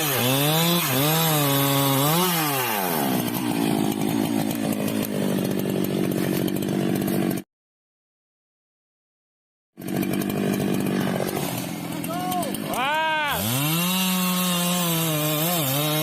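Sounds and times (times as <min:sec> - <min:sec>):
chainsaw engine revving: 0:00.0 - 0:07.4, 0:09.8 - 0:16.0.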